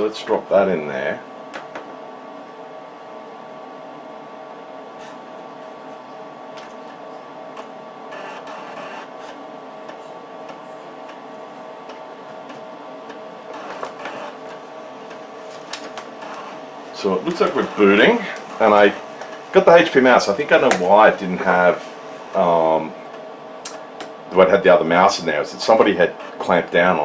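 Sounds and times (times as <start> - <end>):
disk drive activity: 0.0 - 27.0
fan hum with whining tones: 0.0 - 27.0.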